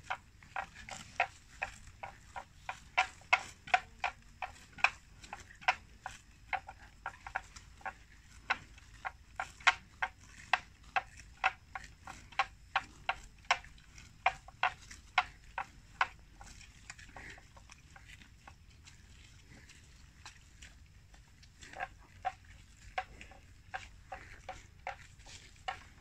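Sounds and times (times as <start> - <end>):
buffalo tearing grass: 0.0 - 9.2, 9.8 - 20.8, 21.4 - 26.0.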